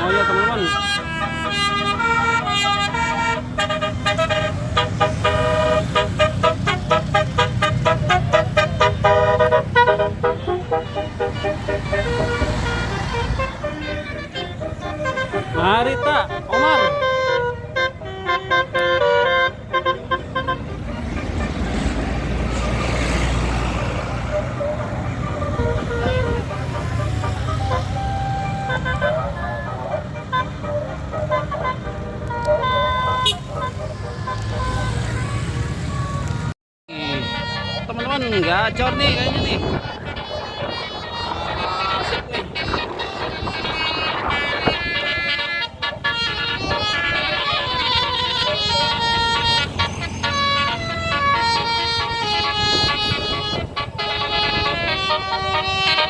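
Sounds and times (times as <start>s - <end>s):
musical air horn playing tune: 0.0s - 35.4s, 36.9s - 56.0s
bus engine rumble: 0.0s - 56.0s.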